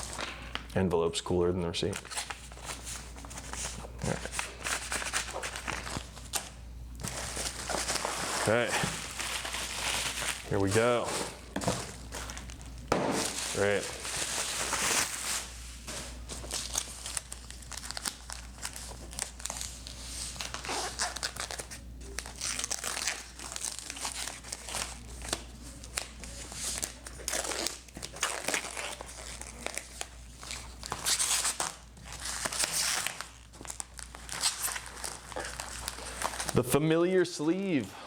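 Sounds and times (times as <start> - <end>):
wrapping crinkling and rustling: 0.0 - 36.7
packaging tearing: 2.0 - 36.6.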